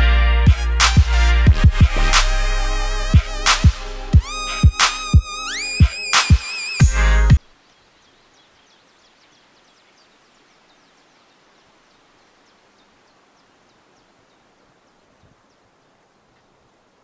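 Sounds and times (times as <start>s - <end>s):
birds chirping: 0.5s - 17.0s.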